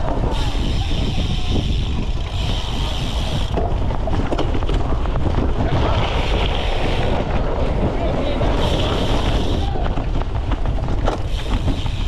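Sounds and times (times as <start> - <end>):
bike clattering and rattling: 0.0 - 12.0
wind buffeting microphone: 0.0 - 12.0.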